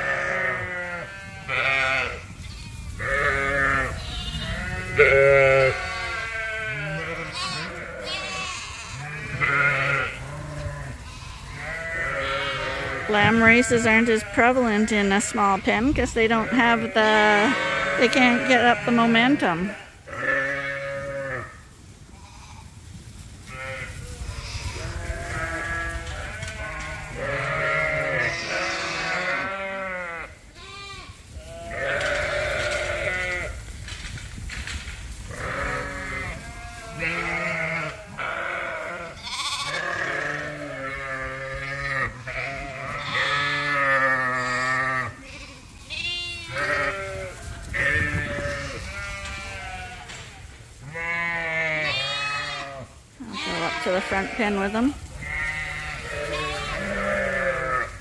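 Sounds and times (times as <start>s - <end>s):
sheep bleating: 0.0s - 21.6s, 23.5s - 33.6s, 35.3s - 50.2s, 50.8s - 58.0s.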